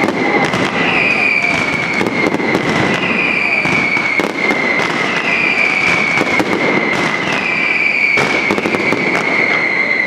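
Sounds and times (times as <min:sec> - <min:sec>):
firework whistle: 0:00.0 - 0:10.0
fireworks crackling and popping: 0:00.0 - 0:10.0.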